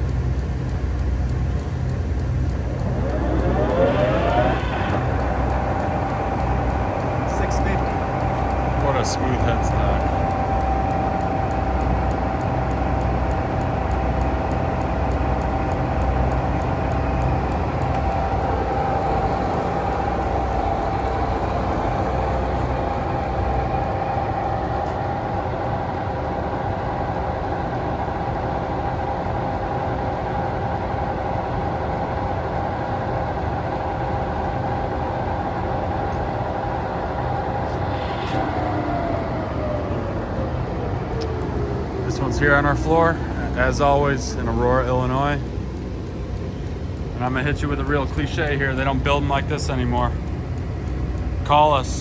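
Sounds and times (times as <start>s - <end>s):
lathe whining: 0.0s - 27.7s, 33.4s - 52.0s.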